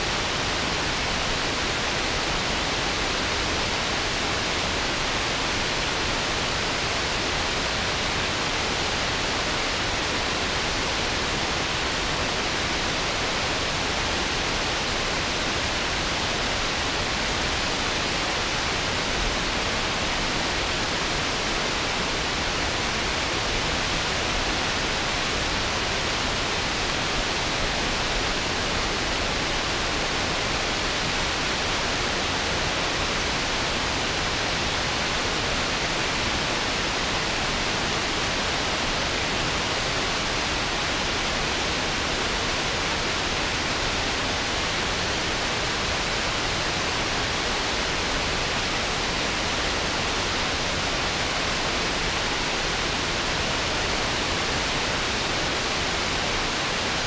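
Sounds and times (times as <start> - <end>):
waterfall rushing onto rocks: 0.0 - 57.0.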